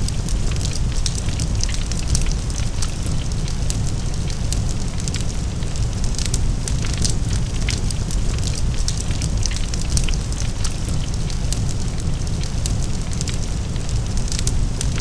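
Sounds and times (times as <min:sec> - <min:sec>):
large fire burning: 0:00.0 - 0:15.0.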